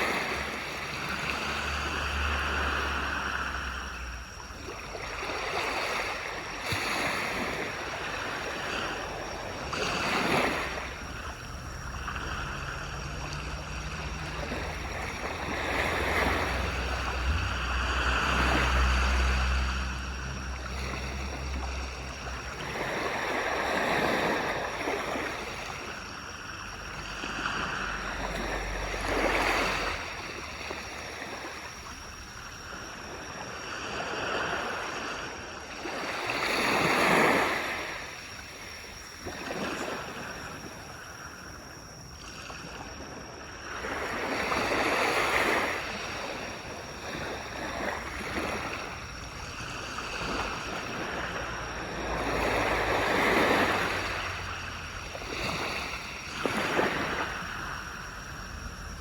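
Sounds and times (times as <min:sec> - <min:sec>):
waves breaking on a beach: 0:00.0 - 0:59.0.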